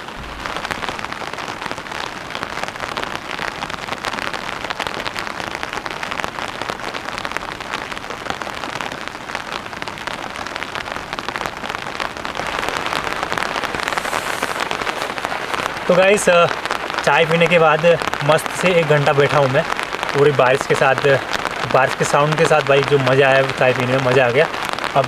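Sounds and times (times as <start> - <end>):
heavy rain hitting surfaces: 0.0 - 25.0.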